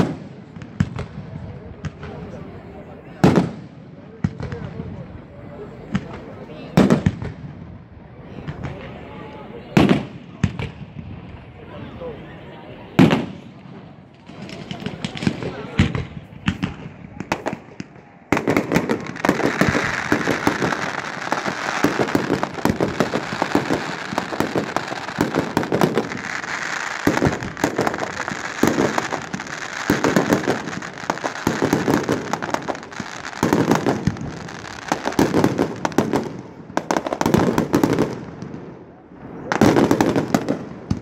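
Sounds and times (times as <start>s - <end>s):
fireworks crackling: 0.0s - 41.0s.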